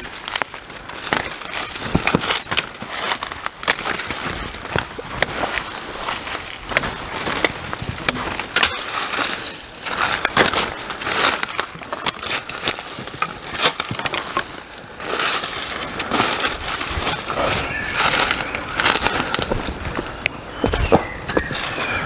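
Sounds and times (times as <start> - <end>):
brushing through undergrowth: 0.0 - 22.0
footsteps crunching dry leaves: 0.0 - 22.0.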